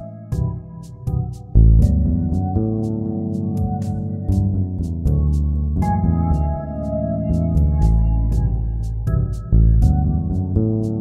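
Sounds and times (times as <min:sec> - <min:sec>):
light ticking beat: 0:00.0 - 0:11.0
synthesizer chords: 0:00.0 - 0:11.0.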